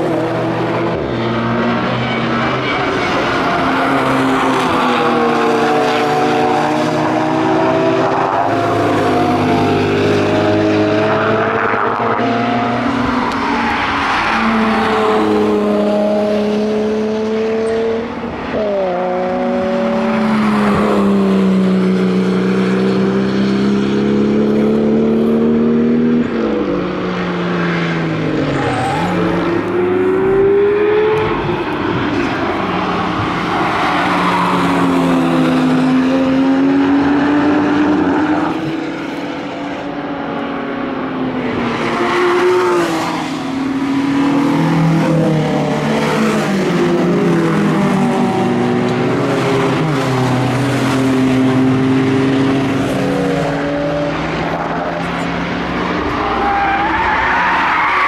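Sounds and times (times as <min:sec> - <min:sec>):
car engines revving past: 0:00.0 - 0:58.0.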